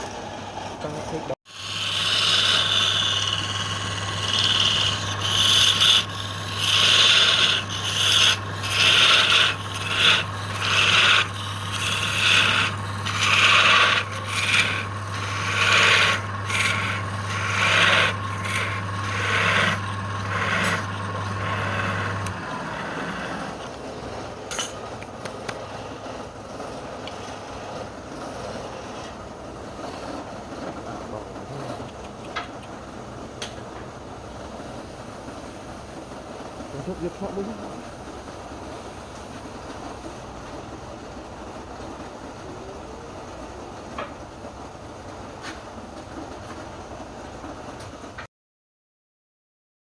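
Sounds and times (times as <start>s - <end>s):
wood lathe humming: 0.0s - 32.6s, 34.1s - 44.2s
tool rubbing spinning wood: 0.0s - 32.9s, 34.2s - 41.3s.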